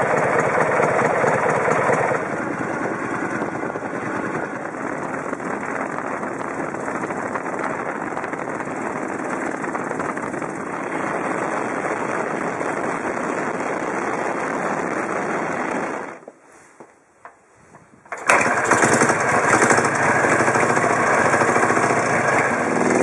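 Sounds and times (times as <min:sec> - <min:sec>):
motorcycle engine running: 0:00.0 - 0:16.2, 0:18.1 - 0:23.0.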